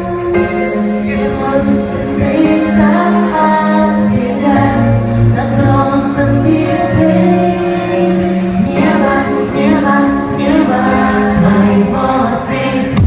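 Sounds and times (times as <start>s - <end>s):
live pop band playing: 0.0s - 13.0s
woman singing: 0.0s - 13.0s.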